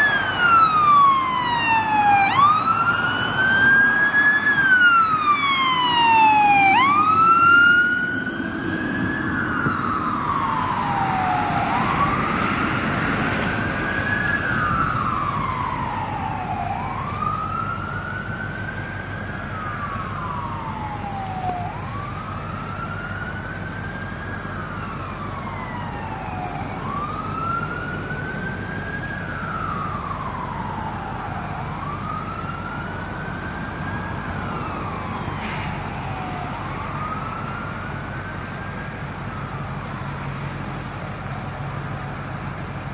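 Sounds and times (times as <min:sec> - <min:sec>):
emergency siren wailing: 0:00.0 - 0:42.9
truck engine and road noise: 0:00.0 - 0:42.9.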